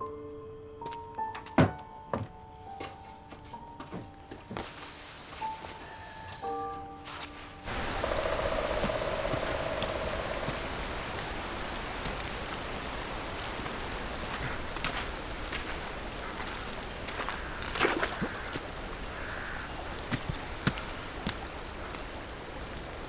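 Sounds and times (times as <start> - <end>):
steady rain hiss: 4.5 - 23.0.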